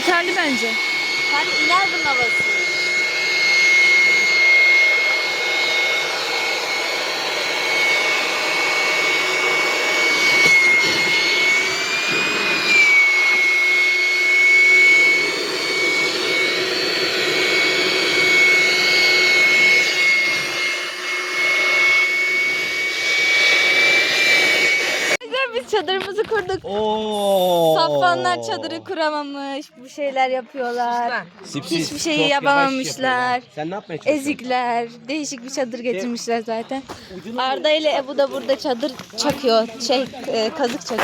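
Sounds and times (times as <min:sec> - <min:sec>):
electric air pump whining: 0:00.0 - 0:30.9, 0:34.0 - 0:41.0.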